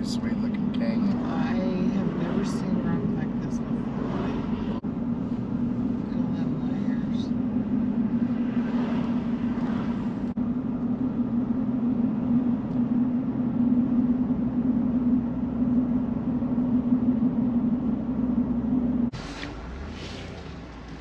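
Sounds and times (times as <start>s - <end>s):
car engine and tyre drone: 0.0s - 21.0s.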